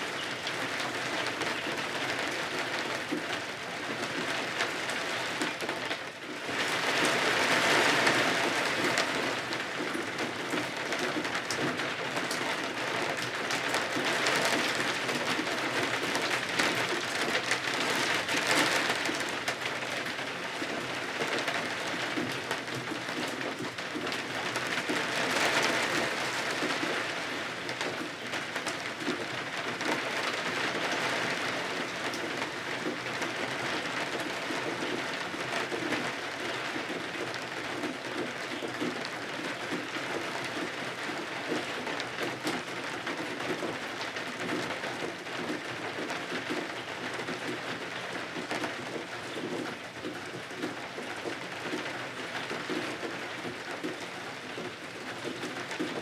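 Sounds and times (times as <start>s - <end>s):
rain pattering against windows: 0.0s - 56.0s.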